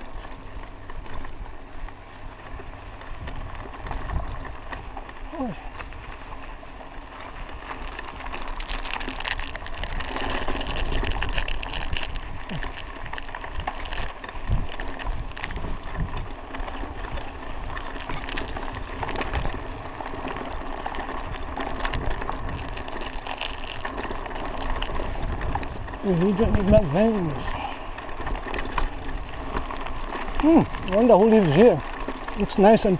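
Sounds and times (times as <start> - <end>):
bike rattling clicks: 0.0 - 32.9
tyres crunching on dirt: 0.0 - 32.9.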